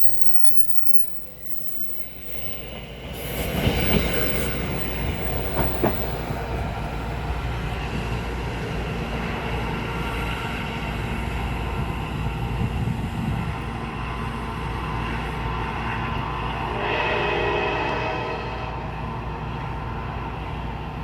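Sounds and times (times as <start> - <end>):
diesel locomotive engine running: 0.0 - 21.0.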